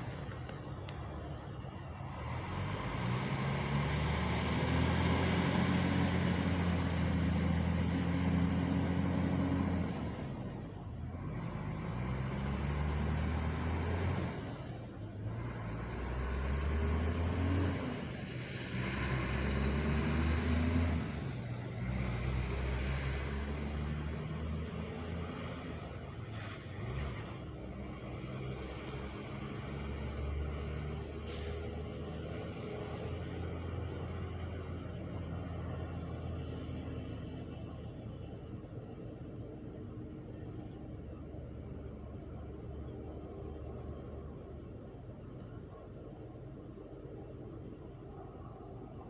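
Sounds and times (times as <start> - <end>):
truck engines droning: 0.0 - 49.0.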